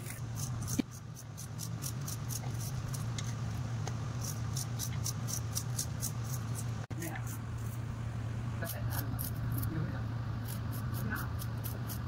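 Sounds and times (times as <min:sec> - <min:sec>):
knife slicing onion: 0:00.0 - 0:07.8, 0:08.6 - 0:12.0
steady low hum: 0:00.0 - 0:12.0.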